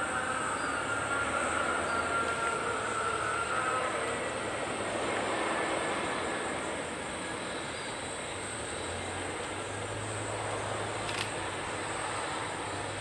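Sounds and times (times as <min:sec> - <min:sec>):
high engine whine: 0:00.0 - 0:13.0
jet engines running: 0:00.0 - 0:13.0.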